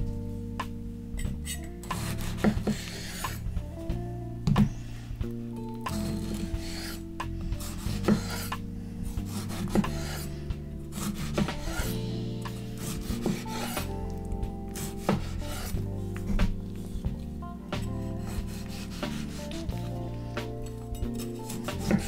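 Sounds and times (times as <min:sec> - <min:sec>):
soft background music: 0:00.0 - 0:22.0
knife slicing tomato: 0:01.2 - 0:03.5, 0:05.9 - 0:17.2, 0:17.8 - 0:22.0.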